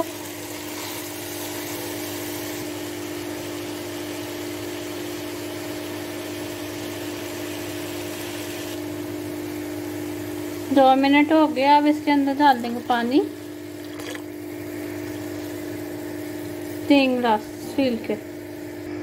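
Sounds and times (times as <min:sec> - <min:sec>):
lentils sizzling in oil: 0:00.0 - 0:18.8.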